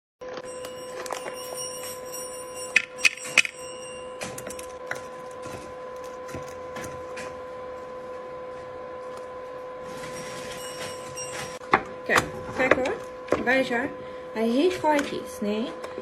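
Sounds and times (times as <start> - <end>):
steady electrical hum: 0.2 - 16.0.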